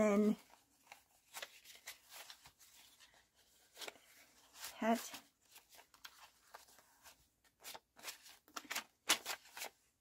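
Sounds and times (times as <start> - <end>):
banknotes rustling and snapping: 0.3 - 9.9.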